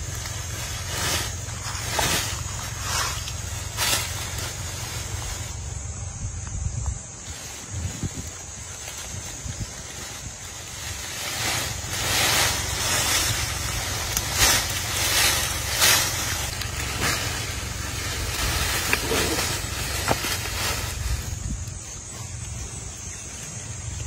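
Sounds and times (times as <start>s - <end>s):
rustling through dry leaves: 0.0s - 24.0s
wind rumble on microphone: 0.0s - 24.0s.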